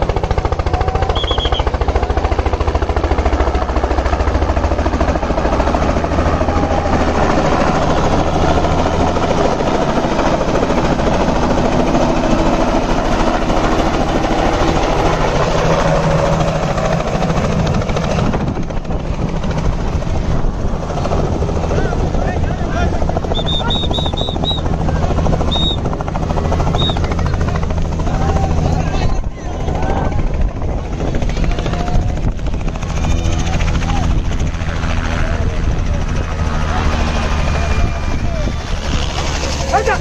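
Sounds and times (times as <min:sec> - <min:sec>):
helicopter rotor chopping: 0:00.0 - 0:40.0.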